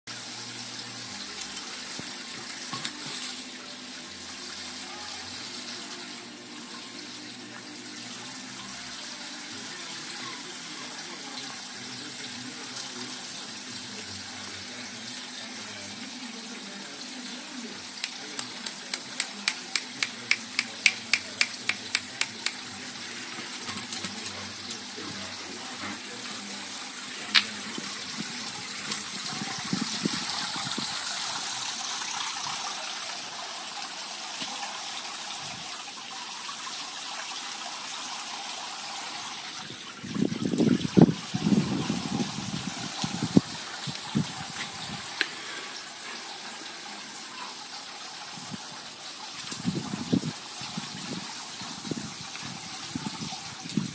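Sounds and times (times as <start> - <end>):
fountain splashing into water: 0.1 - 53.9.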